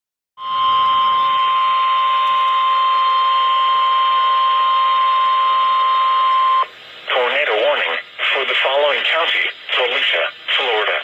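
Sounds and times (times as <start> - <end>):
loud steady electronic tone: 0.4 - 11.0.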